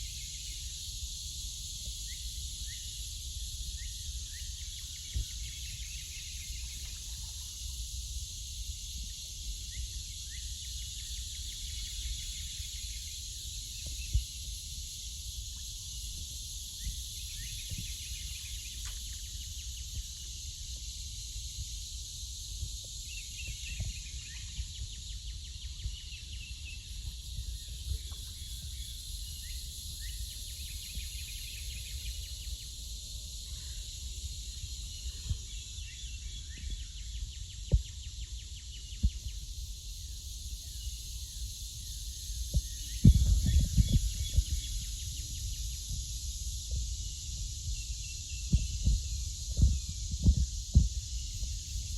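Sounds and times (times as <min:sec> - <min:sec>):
cicada chorus droning: 0:00.0 - 0:51.9.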